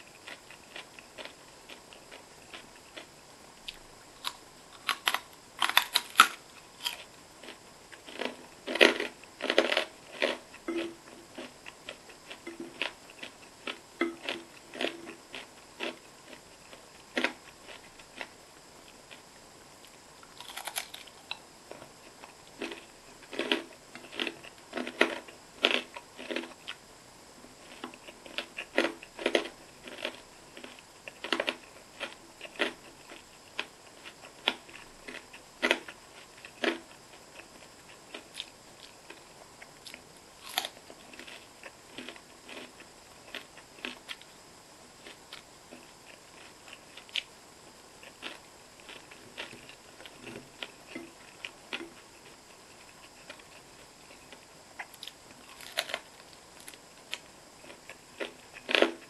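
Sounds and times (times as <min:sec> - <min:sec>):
crunchy bites and chewing: 0:00.1 - 0:47.4, 0:48.0 - 0:59.0.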